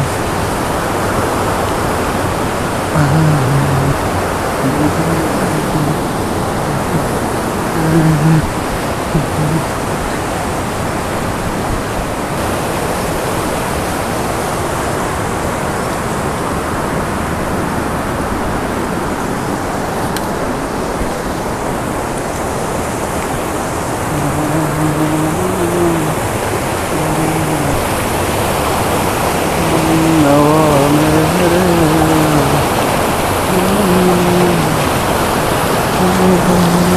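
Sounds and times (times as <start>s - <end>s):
stream rushing over rocks: 0.0s - 36.9s.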